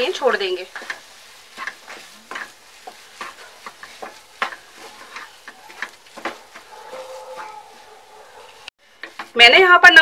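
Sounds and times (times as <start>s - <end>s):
spatula scraping a pan: 0.0s - 9.4s.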